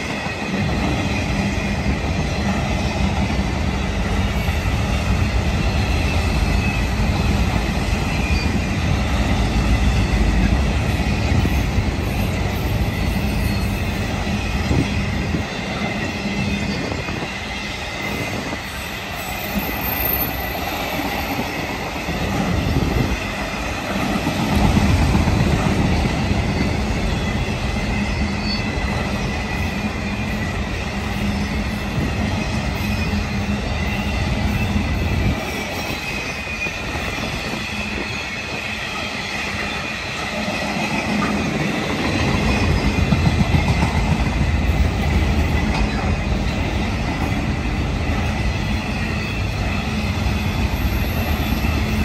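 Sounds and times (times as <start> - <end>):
freight train wheels clattering: 0.0 - 52.0
high wheel squeal: 5.6 - 23.8, 25.6 - 43.2, 45.4 - 52.0.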